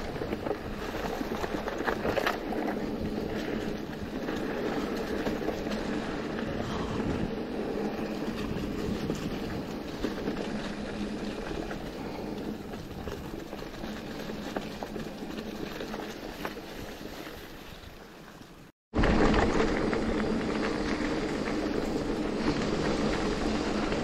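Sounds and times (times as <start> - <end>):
bike rattling: 0.0 - 24.0
bike tyres rumbling on trail: 0.0 - 24.0.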